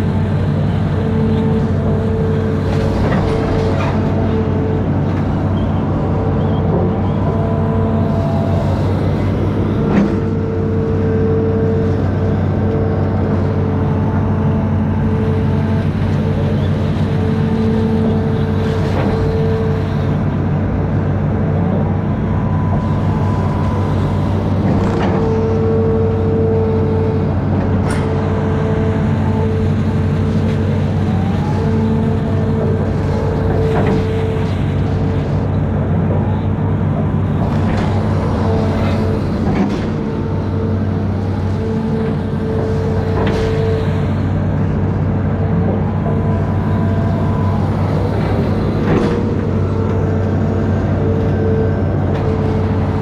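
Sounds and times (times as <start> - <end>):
diesel engine running: 0.0 - 53.0
steady tone above engine: 0.0 - 53.0.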